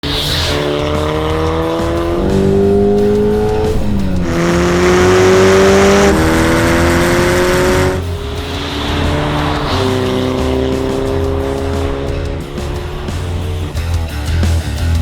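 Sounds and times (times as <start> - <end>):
car engine accelerating: 0.0 - 15.0
music with steady beat: 0.0 - 15.0.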